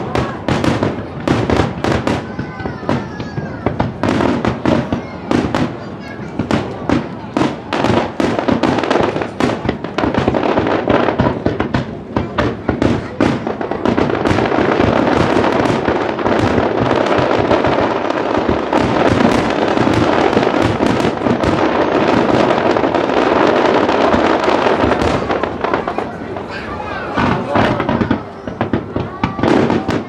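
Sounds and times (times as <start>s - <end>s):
fireworks booms and bangs: 0.0s - 30.0s.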